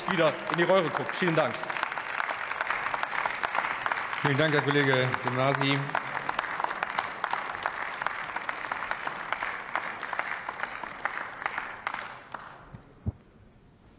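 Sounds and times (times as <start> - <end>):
many hands clapping: 0.0 - 13.1.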